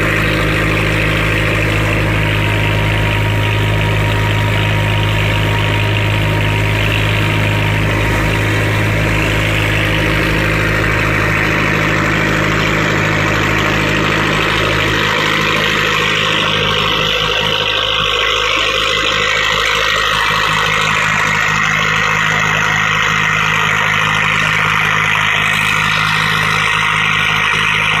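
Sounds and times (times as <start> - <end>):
engine low hum: 0.0 - 28.0.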